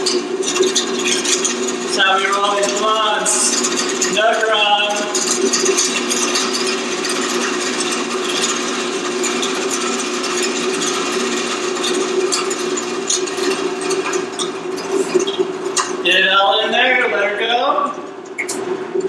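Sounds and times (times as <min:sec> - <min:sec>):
grinder motor hum: 0:00.0 - 0:19.0
herb crackling in grinder: 0:00.0 - 0:19.0.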